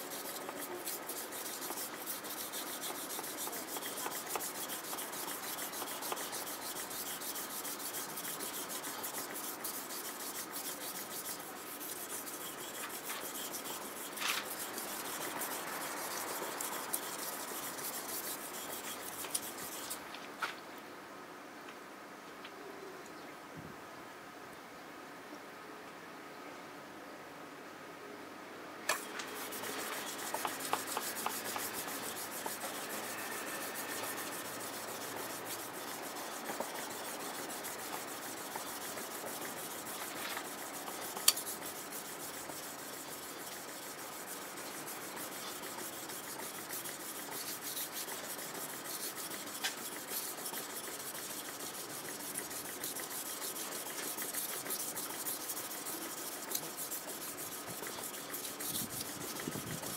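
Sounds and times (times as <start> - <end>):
knife scraping on whetstone: 0.0 - 20.0, 28.9 - 59.9.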